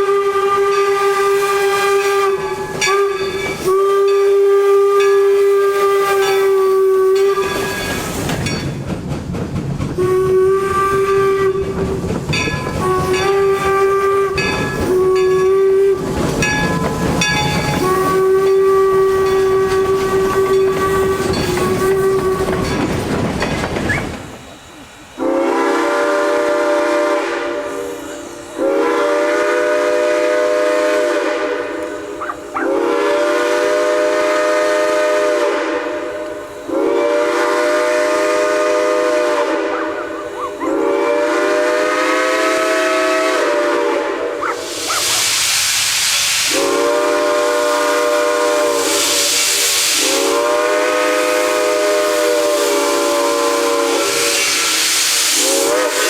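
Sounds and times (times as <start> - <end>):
steam whistle blasts: 0.0 - 8.2, 10.0 - 12.0, 12.6 - 22.8, 23.9 - 56.0
loud steam hiss: 0.0 - 56.0.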